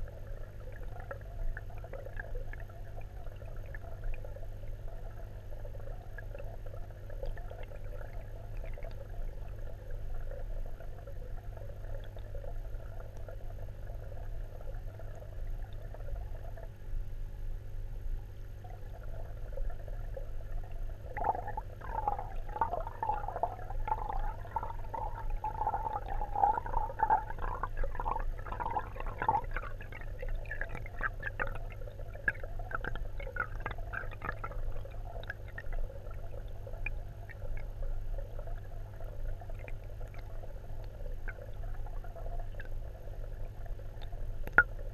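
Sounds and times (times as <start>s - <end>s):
steady low underwater hum: 0.0s - 44.9s
underwater bubbling and crackling: 0.0s - 44.9s.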